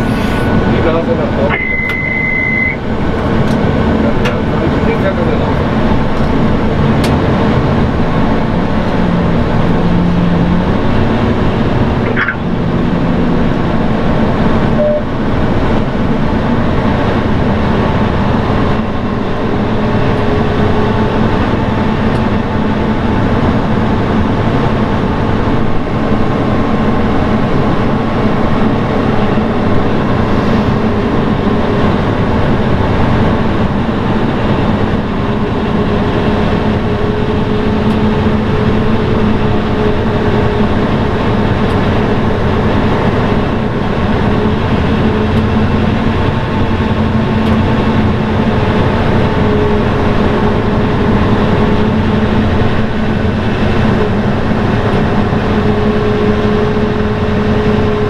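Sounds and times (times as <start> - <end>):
pushback tug engine drone: 0.0 - 58.0.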